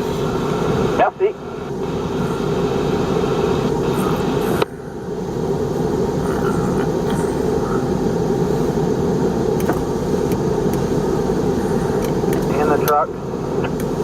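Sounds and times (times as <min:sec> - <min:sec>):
truck cab rumble and hiss: 0:00.0 - 0:14.0.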